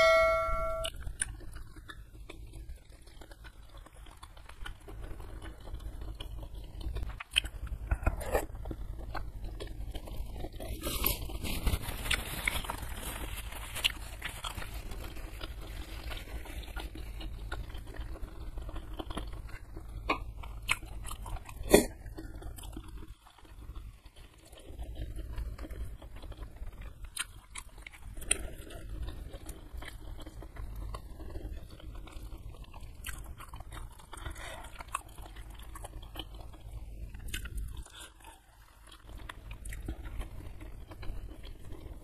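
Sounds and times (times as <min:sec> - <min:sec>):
close chewing with wet mouth sounds: 0:00.9 - 0:42.0.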